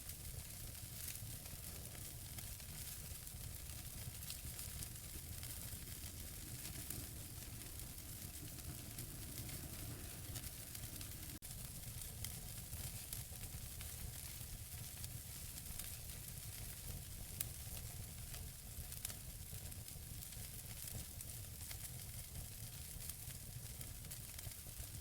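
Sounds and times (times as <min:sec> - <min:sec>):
fire crackling and popping: 0:00.0 - 0:25.0
fire hiss and rumble: 0:00.0 - 0:25.0.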